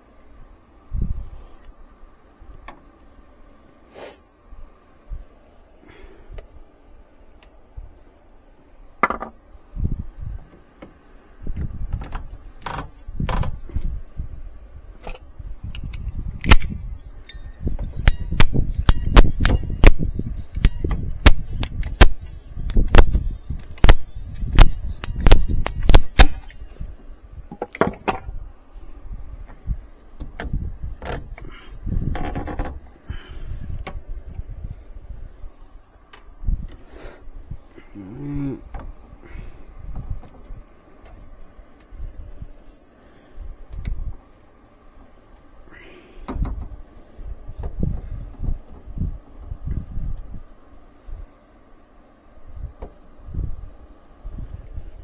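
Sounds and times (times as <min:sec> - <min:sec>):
low steady background noise: 0:00.0 - 0:55.0
low rumbling handling noise: 0:04.5 - 0:51.4.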